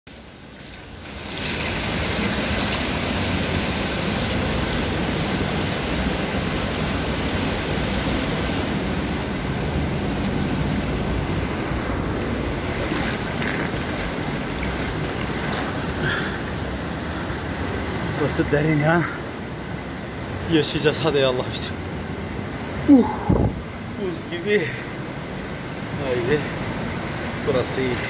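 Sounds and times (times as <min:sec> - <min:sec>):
rush of flowing water: 0:00.1 - 0:28.0.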